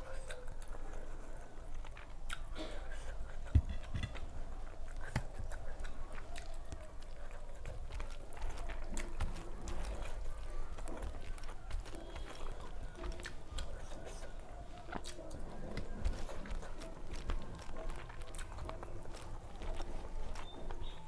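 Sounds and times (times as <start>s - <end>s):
wet chewing and mouth smacks: 0.0s - 21.0s.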